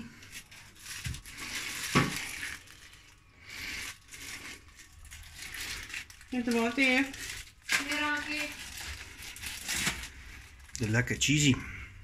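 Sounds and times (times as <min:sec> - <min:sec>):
rustling and handling food: 0:00.0 - 0:12.0.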